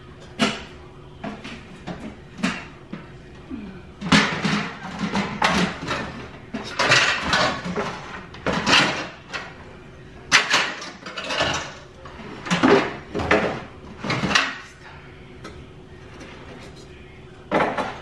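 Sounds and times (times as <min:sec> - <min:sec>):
dishes clinking in a cupboard: 0:00.2 - 0:03.2, 0:04.0 - 0:09.6, 0:10.2 - 0:18.0.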